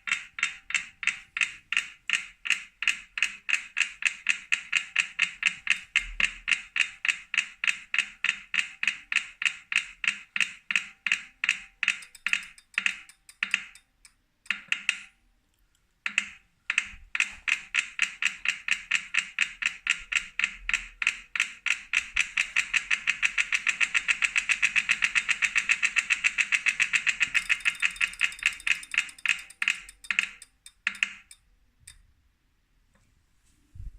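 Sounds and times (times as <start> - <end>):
bike trainer rhythmic clicking: 0.0 - 15.1, 16.1 - 32.0.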